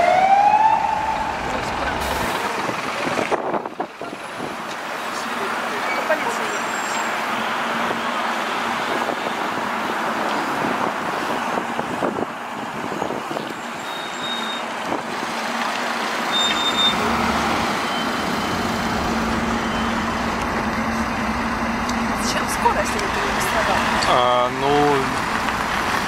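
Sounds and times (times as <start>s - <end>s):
heavy vehicle engine drone: 0.0s - 26.0s
street traffic road noise: 0.0s - 26.0s.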